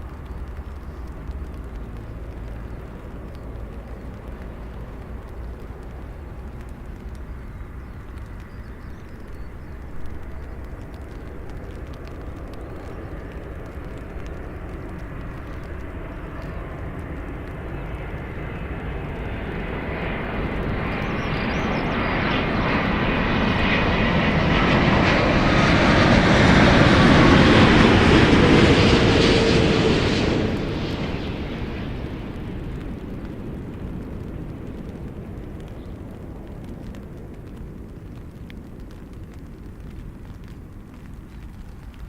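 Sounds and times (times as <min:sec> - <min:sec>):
airliner engines passing: 0:00.0 - 0:42.0.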